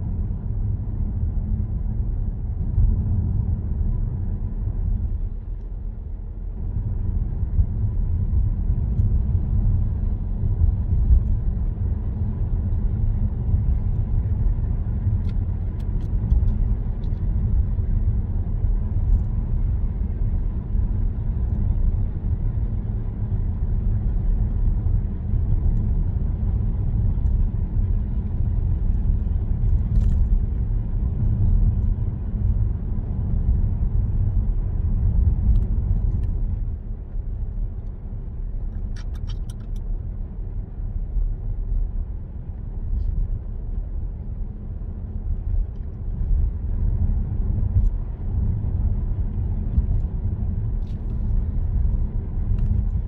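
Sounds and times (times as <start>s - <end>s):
tyres and engine rumble: 0.0s - 53.0s.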